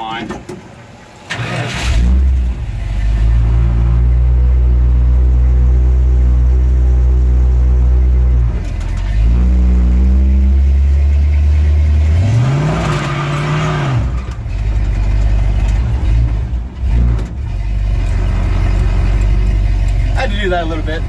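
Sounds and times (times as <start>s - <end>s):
truck engine from inside cab: 0.0s - 21.0s.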